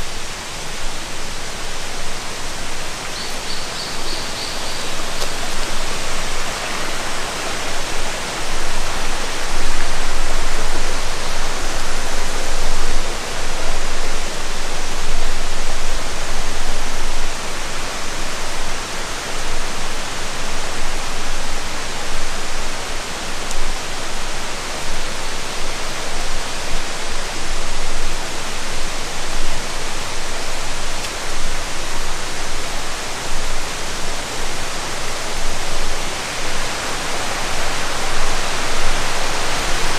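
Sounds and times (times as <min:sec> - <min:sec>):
loud rush of flowing water: 0:00.0 - 0:39.9.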